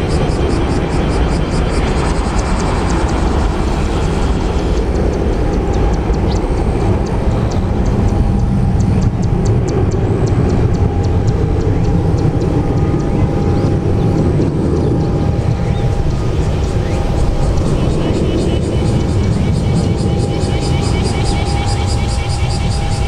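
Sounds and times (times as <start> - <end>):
faint engine whine: 0.0 - 23.0
jet engines roaring: 0.0 - 23.0.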